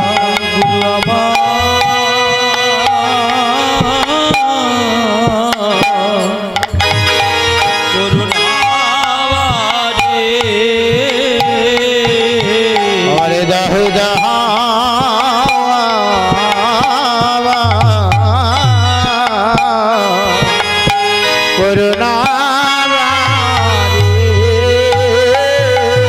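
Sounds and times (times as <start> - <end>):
person singing ornamented melody: 0.0 - 26.0
sustained accompanying tones: 0.0 - 26.0.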